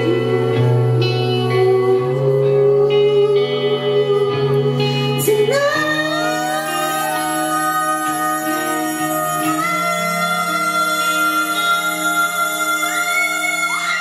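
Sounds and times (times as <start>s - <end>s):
bass line: 0.0s - 14.0s
pop-rock band playing: 0.0s - 14.0s.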